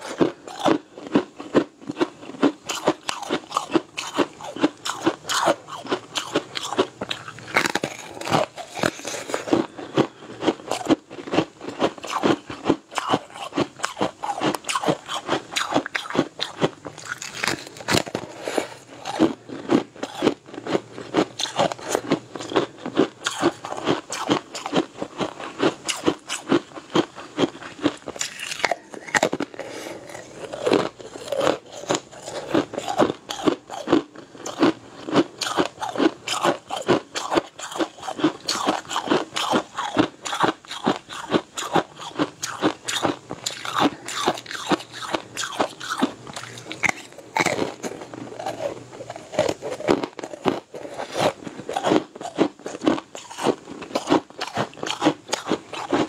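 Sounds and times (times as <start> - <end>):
crunching and chewing crisp food: 0.0 - 56.0.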